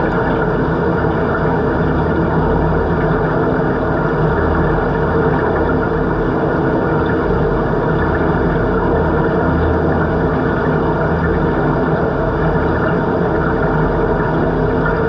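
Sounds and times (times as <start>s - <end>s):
underwater machine-like drone: 0.0s - 15.0s
underwater water noise: 0.0s - 15.0s.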